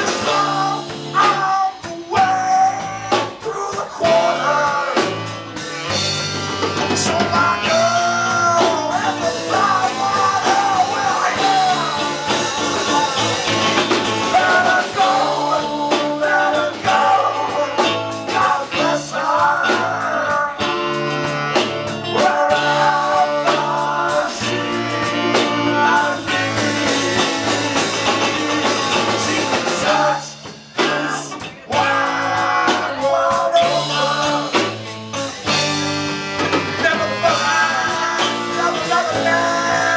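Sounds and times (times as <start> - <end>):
person singing: 0.0 - 5.4, 6.8 - 35.6, 36.7 - 39.9
drum kit: 0.0 - 39.9
electric guitar: 0.0 - 39.9
saxophone: 0.0 - 39.9.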